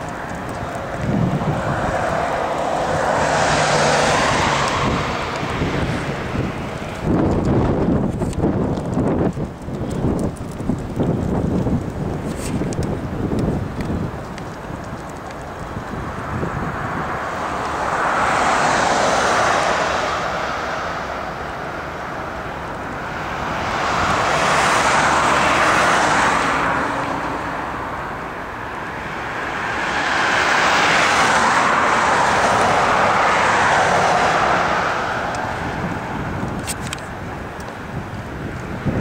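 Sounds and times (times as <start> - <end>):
vehicles passing by: 0.0 - 39.0.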